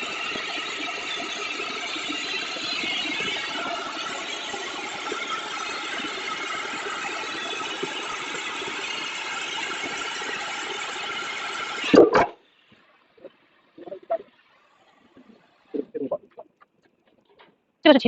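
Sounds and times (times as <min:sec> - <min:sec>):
cutting torch hissing: 0:00.0 - 0:16.5.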